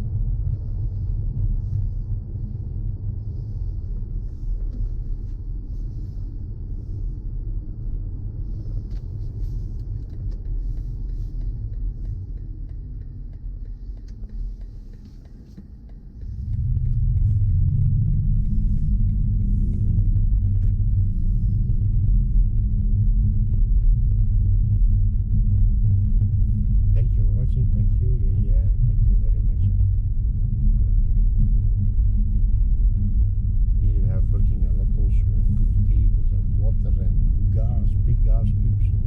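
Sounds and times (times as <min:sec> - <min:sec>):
car rumble on the move: 0:00.0 - 0:39.0.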